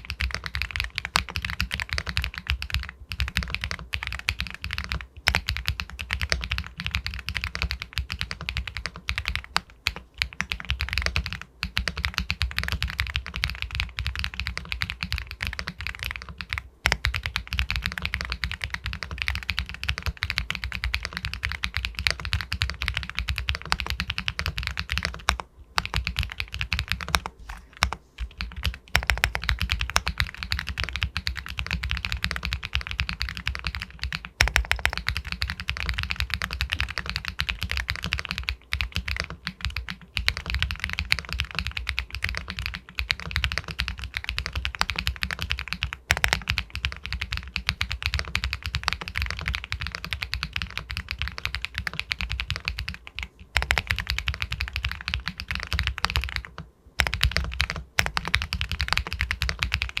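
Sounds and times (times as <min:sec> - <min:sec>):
fast typing on mechanical keyboard: 0:00.0 - 1:00.0.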